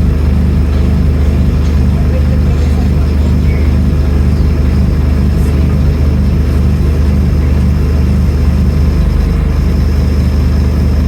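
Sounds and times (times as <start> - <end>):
bus diesel engine humming: 0.0 - 11.0.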